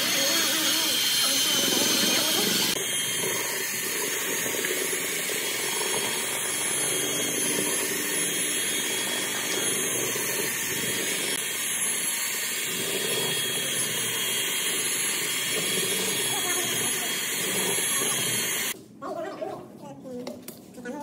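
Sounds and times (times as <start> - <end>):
electric drill mixer whining: 0.0 - 18.8
paddle churning wet mortar: 0.0 - 18.8.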